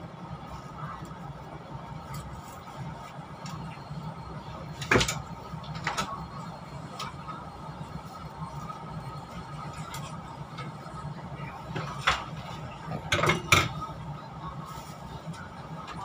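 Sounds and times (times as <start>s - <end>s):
low hum inside train carriage: 0.0s - 16.0s.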